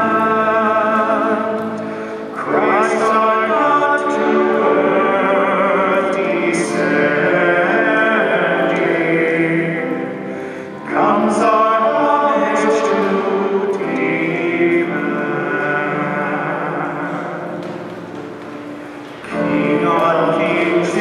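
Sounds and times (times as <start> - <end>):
voices singing a hymn: 0.0 - 21.0.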